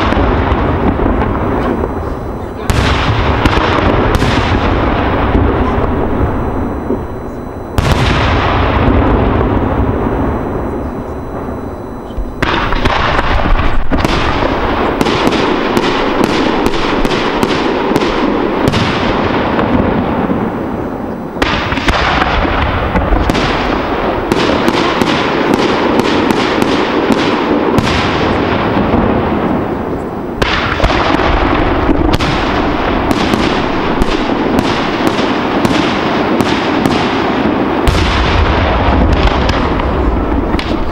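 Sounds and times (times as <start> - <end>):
rapid firework bangs and cracks: 0.0 - 40.9.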